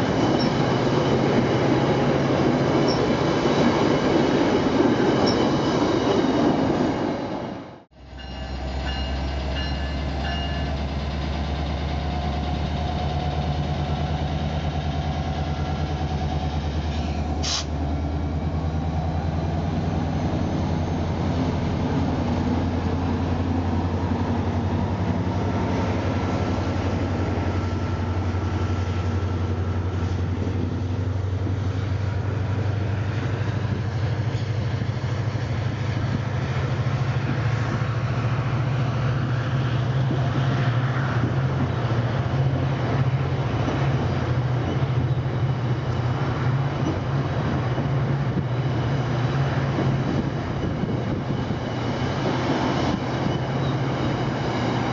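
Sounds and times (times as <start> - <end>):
diesel locomotive engine drone: 0.0 - 54.9.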